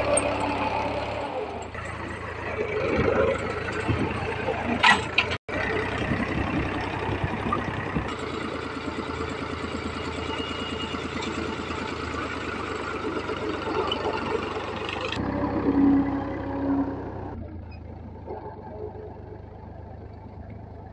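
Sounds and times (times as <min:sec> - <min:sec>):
engine hum: 0:00.0 - 0:20.9
tractor diesel engine running: 0:00.0 - 0:20.9.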